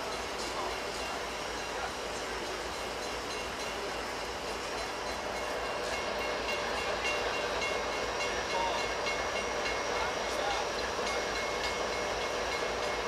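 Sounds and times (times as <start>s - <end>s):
train hum and hiss: 0.0s - 13.0s.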